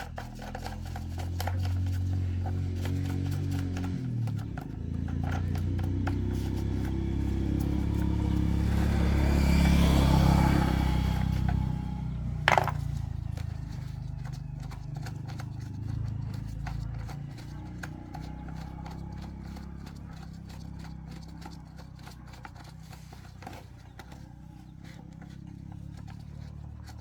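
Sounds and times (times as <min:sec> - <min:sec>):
electric motor humming: 0:00.0 - 0:27.0.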